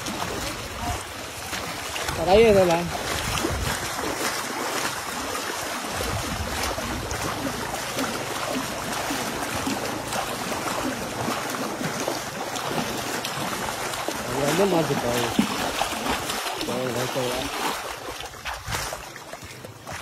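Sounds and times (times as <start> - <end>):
muddy water splashing: 0.0 - 20.0.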